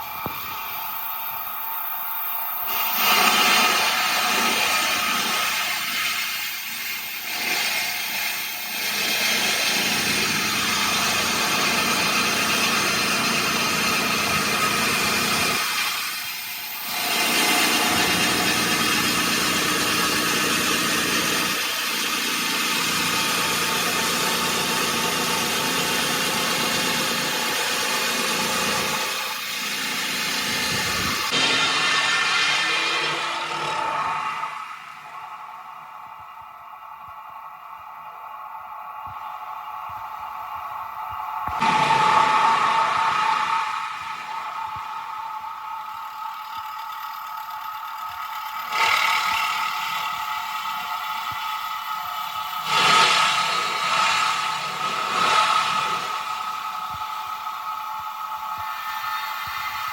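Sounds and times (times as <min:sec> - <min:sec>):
machine engine running: 0:00.0 - 0:59.9.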